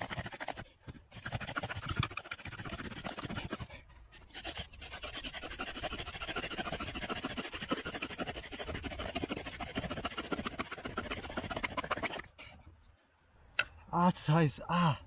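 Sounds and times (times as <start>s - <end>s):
wooden spindle rasping: 0.0s - 12.3s.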